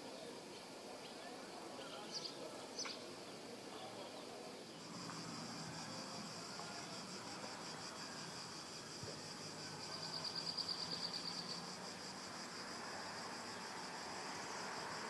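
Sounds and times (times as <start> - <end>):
cicadas buzzing: 0.0 - 15.0
faint steady hiss: 0.0 - 15.0.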